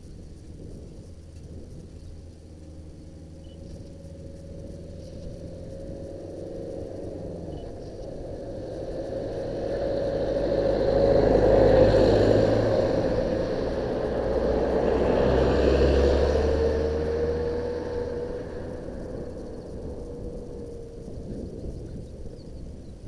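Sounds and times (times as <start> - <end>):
motorcycle engine running: 0.0 - 23.0
road noise: 0.0 - 23.0
rushing wind: 0.0 - 23.0.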